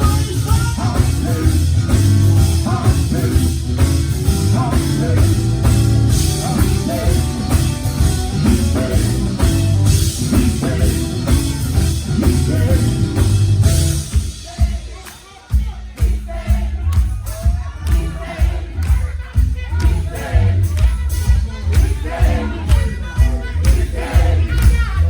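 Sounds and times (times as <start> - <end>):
heavy bass: 0.0 - 14.9, 15.5 - 25.0
band playing: 0.0 - 25.0.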